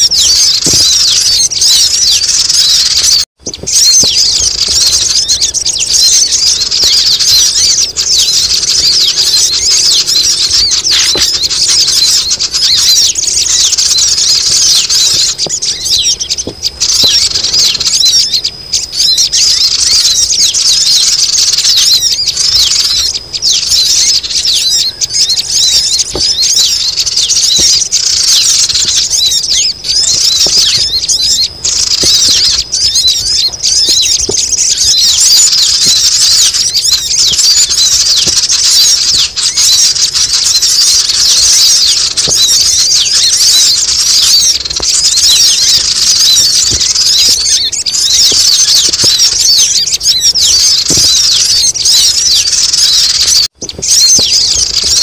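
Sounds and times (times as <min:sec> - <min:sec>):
chorus of sunbird chirps: 0:00.0 - 0:55.0.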